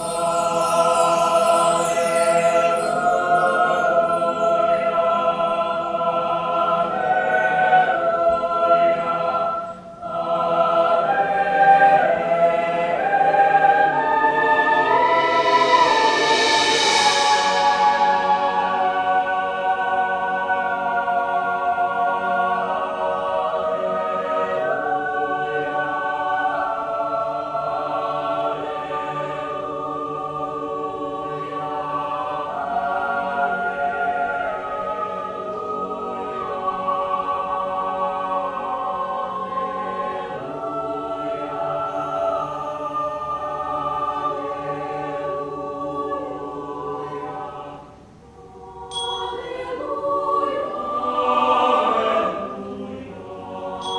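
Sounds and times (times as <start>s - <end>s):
choir singing a cappella: 0.0s - 53.9s.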